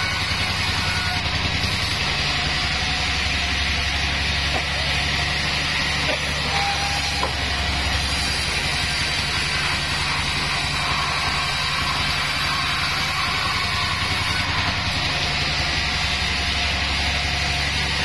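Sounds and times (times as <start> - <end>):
saw blade hissing through log: 0.0 - 18.0
sawmill motor humming: 0.0 - 18.0.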